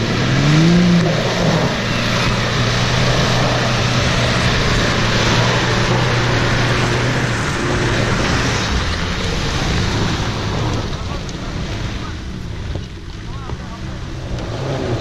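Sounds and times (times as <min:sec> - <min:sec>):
engine revving high: 0:00.0 - 0:12.5, 0:13.5 - 0:15.0
tyres spinning in mud: 0:00.0 - 0:15.0.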